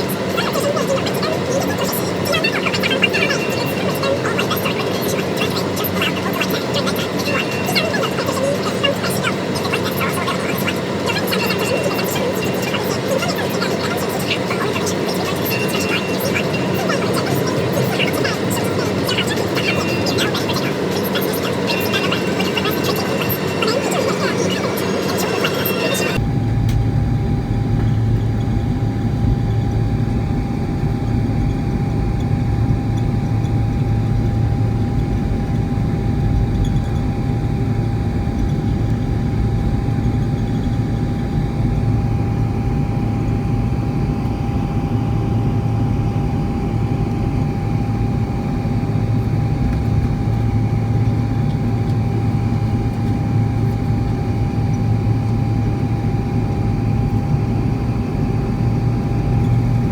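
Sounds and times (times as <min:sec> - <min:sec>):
constant engine tone: 0:00.0 - 0:59.9
jet engine rumble in cabin: 0:00.0 - 0:59.9.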